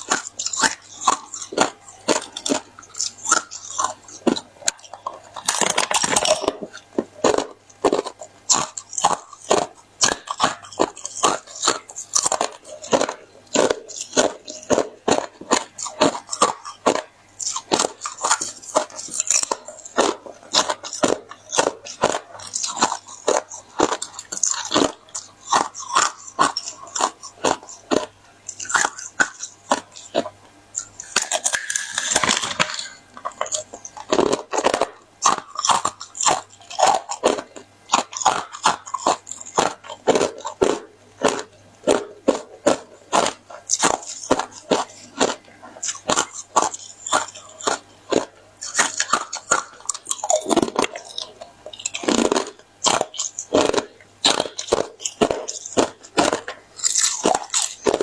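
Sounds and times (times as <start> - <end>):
chewing hard ice: 0.0 - 58.0.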